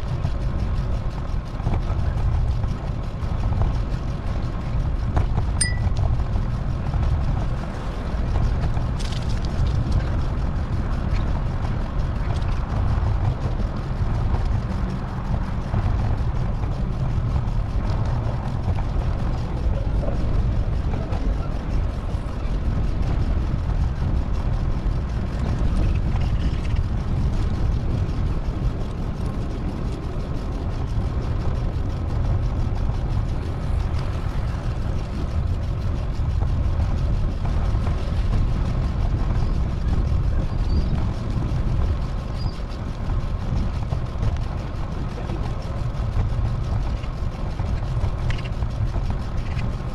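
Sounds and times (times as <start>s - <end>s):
bicycle road noise: 0.0s - 49.9s
wind rumble: 0.0s - 49.9s.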